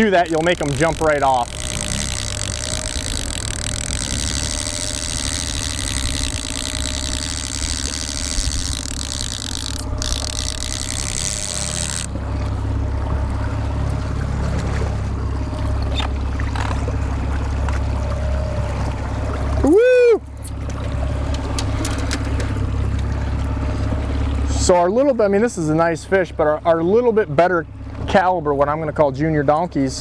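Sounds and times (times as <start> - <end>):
outboard motor humming: 0.0 - 30.0.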